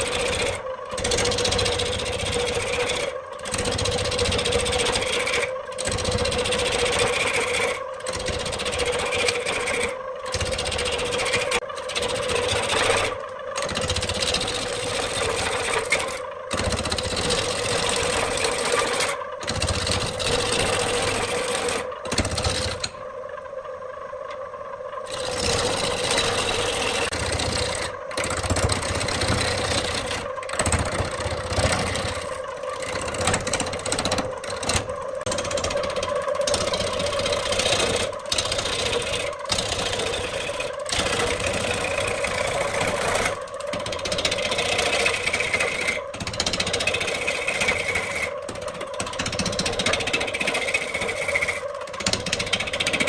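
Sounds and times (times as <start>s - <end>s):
gouge cutting spinning wood: 0.0s - 23.6s, 24.3s - 53.0s
wood lathe humming: 0.0s - 53.0s.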